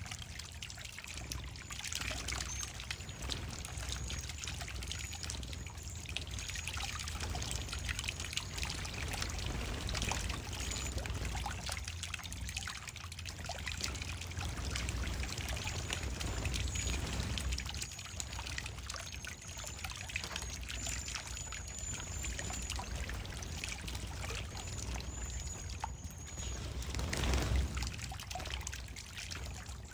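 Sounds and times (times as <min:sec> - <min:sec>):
water trickling and splashing: 0:00.0 - 0:29.9.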